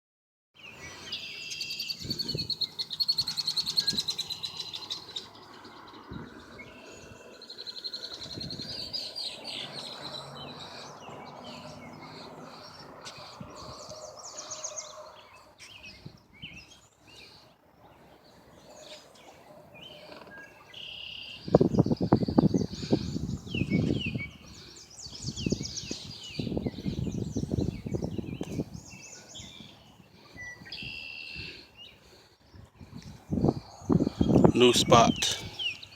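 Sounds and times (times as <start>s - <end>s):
small birds trilling and chirping: 0.6s - 35.9s.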